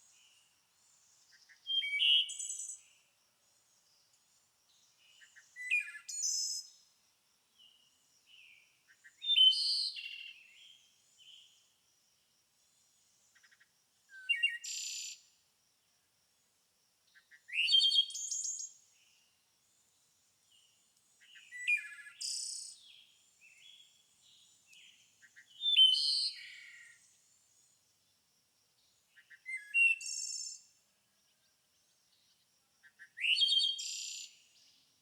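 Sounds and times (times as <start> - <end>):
songbird singing: 0.0 - 11.7, 12.7 - 15.4, 17.1 - 35.0.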